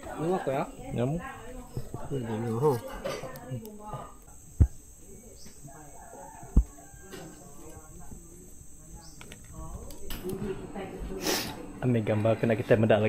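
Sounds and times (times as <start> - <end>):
insect noise: 0.0 - 13.0.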